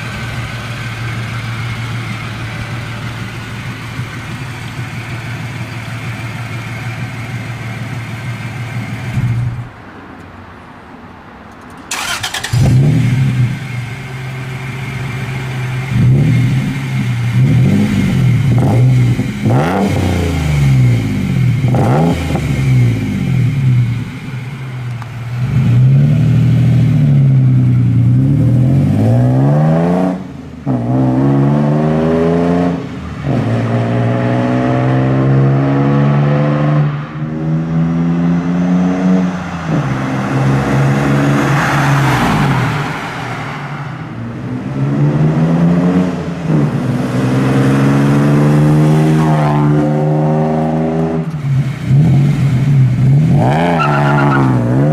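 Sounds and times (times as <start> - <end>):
car engine revving: 0.0 - 9.8, 11.9 - 54.9.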